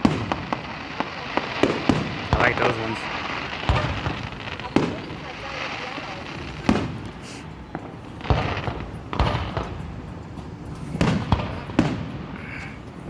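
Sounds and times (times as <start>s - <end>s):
fireworks shells bursting: 0.0s - 13.0s.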